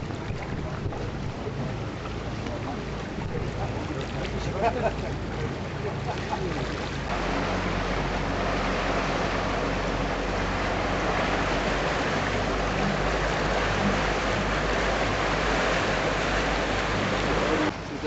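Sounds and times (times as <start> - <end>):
boat engine humming: 0.0 - 18.0
water rushing along hull: 0.0 - 18.0.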